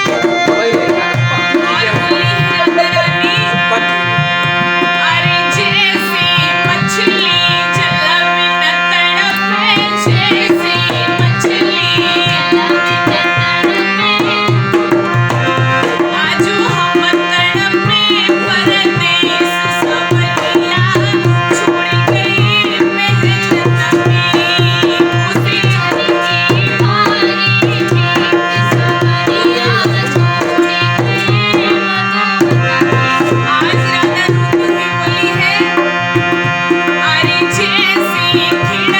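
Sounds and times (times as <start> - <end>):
ornamented melodic line: 0.0 - 38.9
tabla drum beat: 0.0 - 38.9.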